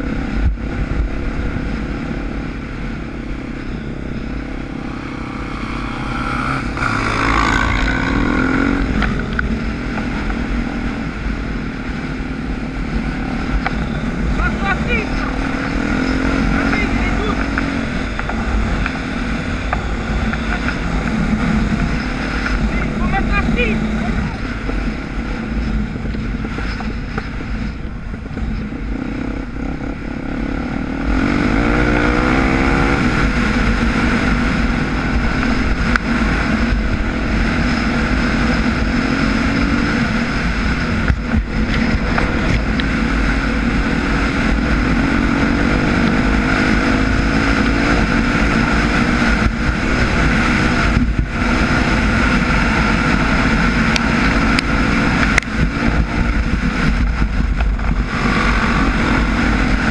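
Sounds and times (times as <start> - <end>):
dirt bike engine revving: 0.0 - 25.8, 28.3 - 59.9
wind on microphone: 0.0 - 59.9.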